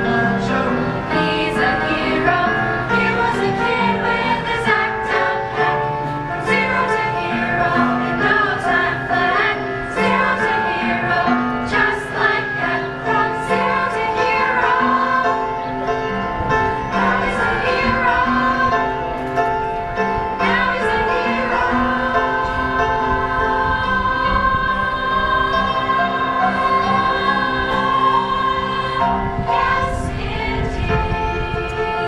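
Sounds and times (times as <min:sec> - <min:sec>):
choir singing in harmony: 0:00.0 - 0:32.0.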